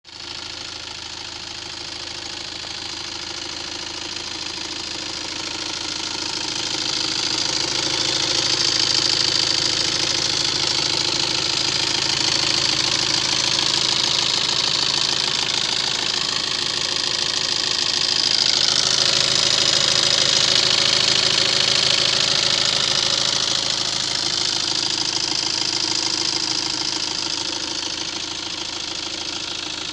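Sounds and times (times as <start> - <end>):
diesel engine running: 0.1 - 29.9.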